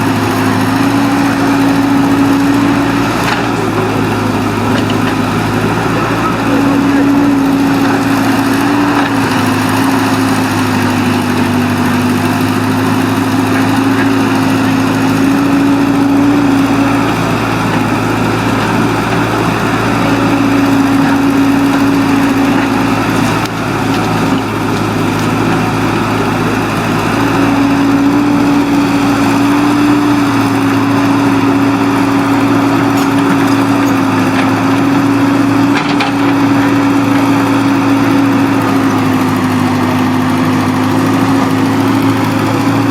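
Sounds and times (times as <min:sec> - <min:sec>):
excavator engine running: 0:00.0 - 0:42.9.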